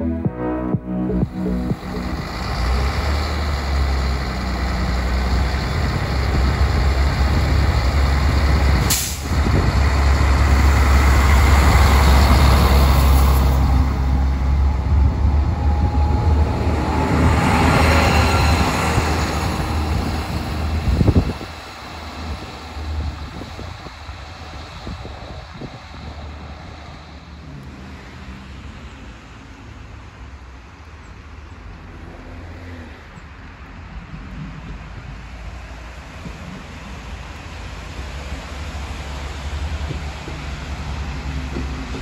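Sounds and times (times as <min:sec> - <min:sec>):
diesel railcar engine rumble: 0:01.1 - 0:42.0
wheel and rail noise: 0:01.8 - 0:42.0.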